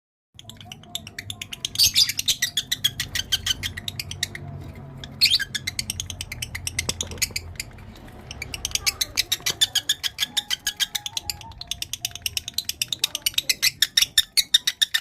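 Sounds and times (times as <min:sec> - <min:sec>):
lovebird chattering: 0:00.4 - 0:15.0.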